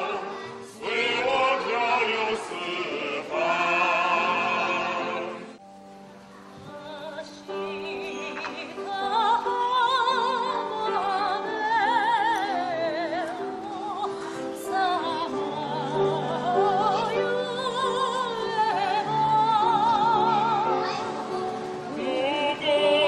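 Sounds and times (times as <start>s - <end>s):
operatic singing: 0.0s - 5.6s, 6.7s - 23.0s
musical accompaniment: 0.0s - 23.0s
soprano singing: 0.0s - 23.0s.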